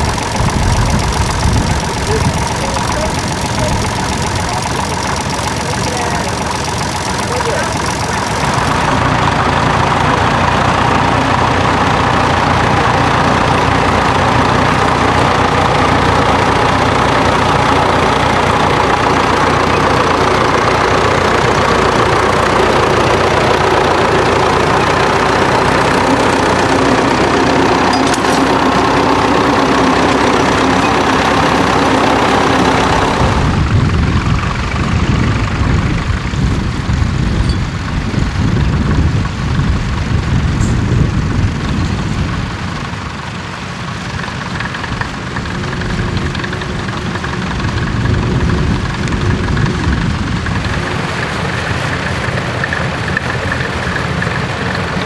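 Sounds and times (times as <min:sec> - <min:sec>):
low uneven rumble: 0:00.0 - 0:55.0
tractor engine running: 0:00.0 - 0:55.0.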